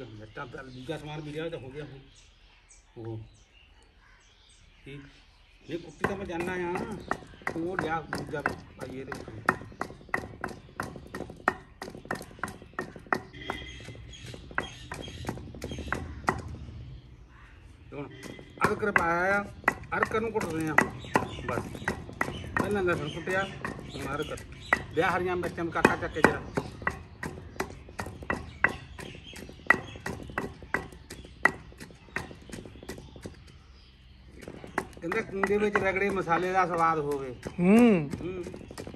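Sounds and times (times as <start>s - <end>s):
pestle pounding in mortar: 6.0s - 16.9s, 18.1s - 38.9s.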